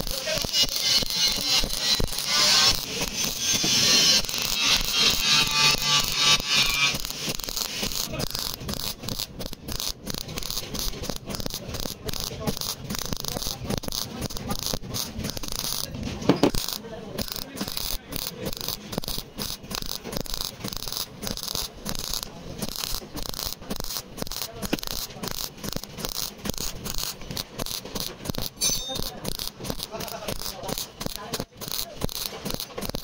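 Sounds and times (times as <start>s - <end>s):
welder arc crackling: 0.0s - 33.0s.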